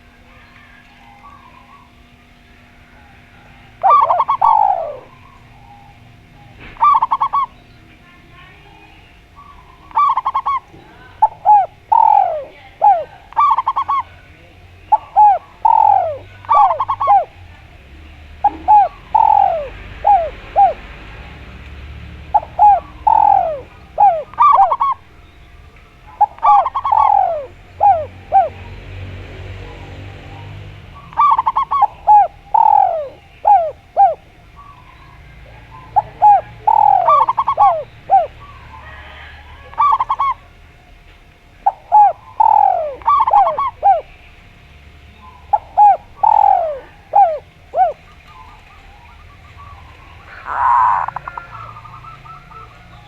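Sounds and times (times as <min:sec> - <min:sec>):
doves cooing: 0:00.0 - 0:53.0.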